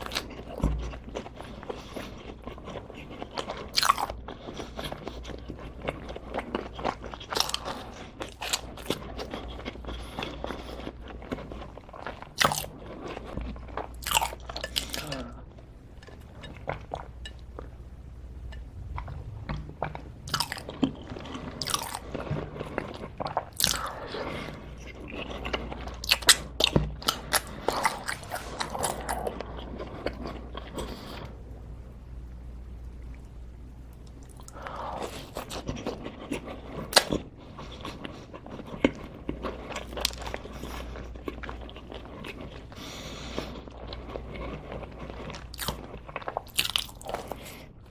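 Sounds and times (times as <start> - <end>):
person chewing crunchy food: 0.0 - 31.5, 34.0 - 47.9.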